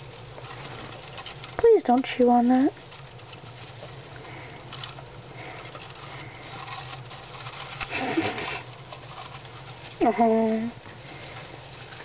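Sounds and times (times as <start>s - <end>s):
hamsters scratching in cage: 0.3s - 12.0s.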